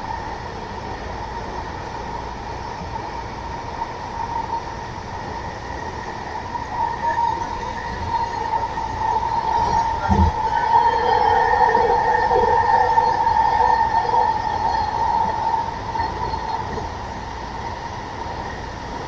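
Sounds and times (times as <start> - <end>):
train car rumble: 0.0 - 19.0
train whine: 0.0 - 19.0.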